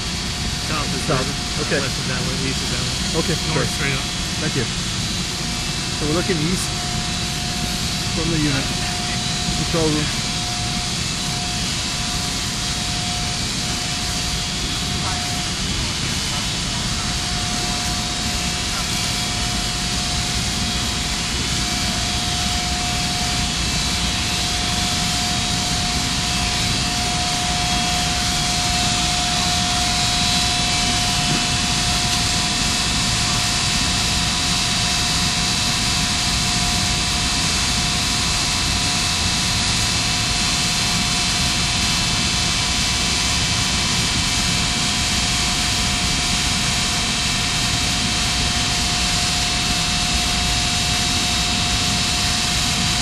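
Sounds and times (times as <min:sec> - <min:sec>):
constant high whine: 0:00.0 - 0:53.0
machinery roar: 0:00.0 - 0:53.0.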